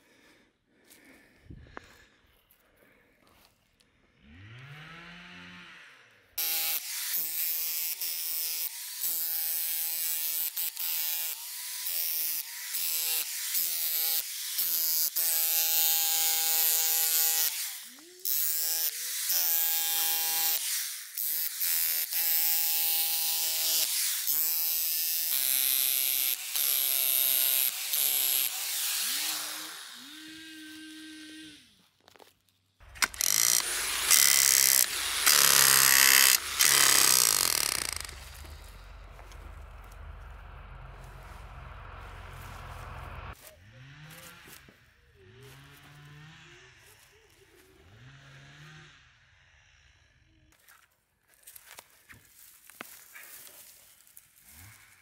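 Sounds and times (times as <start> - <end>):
electric jackhammer chiselling soil: 4.2 - 32.2, 32.8 - 49.4.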